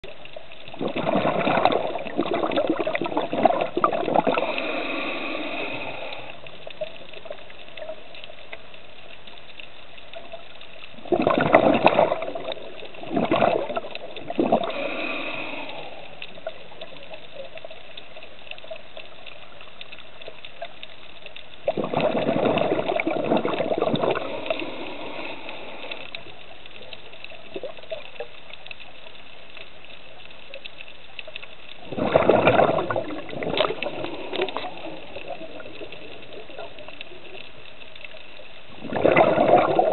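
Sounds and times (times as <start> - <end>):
faint hum: 0.0 - 39.9
underwater bubbling: 0.0 - 39.9.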